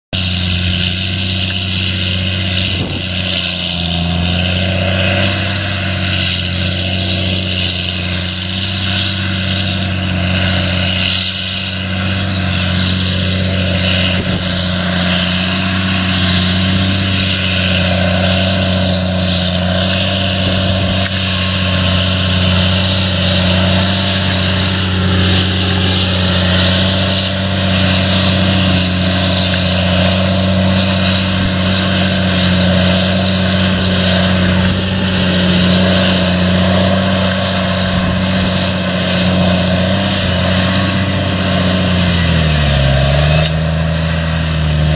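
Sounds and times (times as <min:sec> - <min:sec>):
engine droning: 0:00.1 - 0:44.9.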